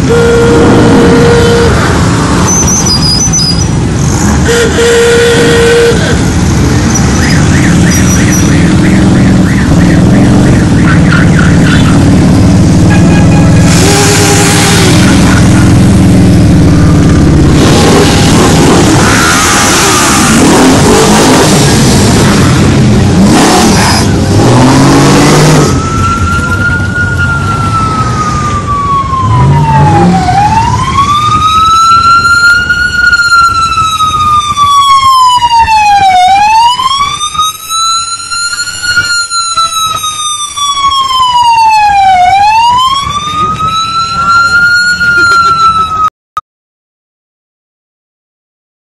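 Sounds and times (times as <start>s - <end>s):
siren wailing: 0.0s - 23.2s, 23.9s - 46.1s
motorcycle engines revving: 0.0s - 46.1s.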